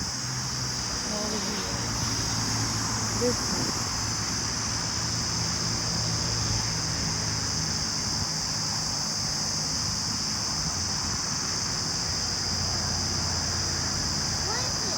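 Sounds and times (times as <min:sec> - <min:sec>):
cicada drone: 0:00.0 - 0:14.9.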